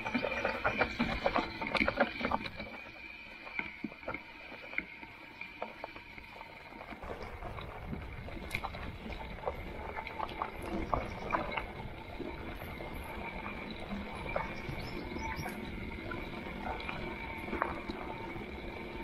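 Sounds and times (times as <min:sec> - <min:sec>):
bike tyres and frame clicking: 0:00.0 - 0:19.0.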